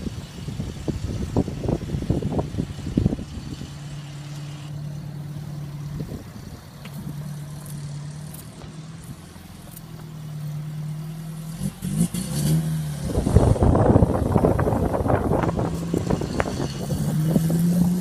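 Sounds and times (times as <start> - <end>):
car engine driving slowly past: 0.0 - 18.0.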